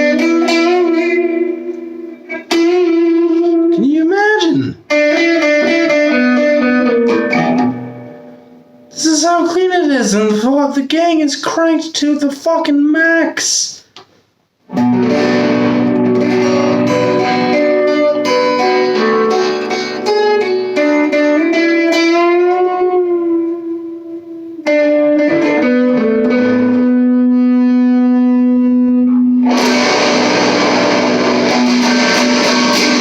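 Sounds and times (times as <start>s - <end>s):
clean electric guitar: 0.0s - 9.0s, 14.7s - 33.0s.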